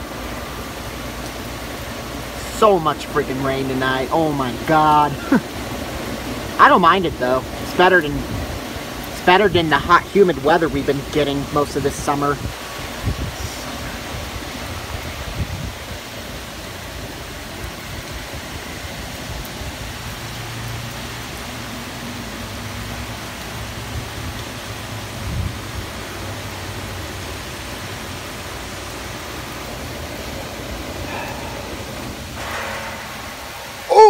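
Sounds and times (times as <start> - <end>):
heavy rain hiss: 0.0 - 34.0.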